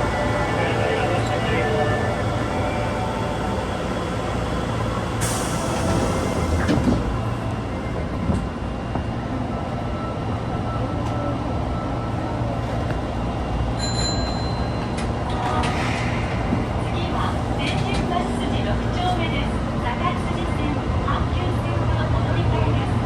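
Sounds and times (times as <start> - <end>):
subway train rumbling: 0.0 - 23.0.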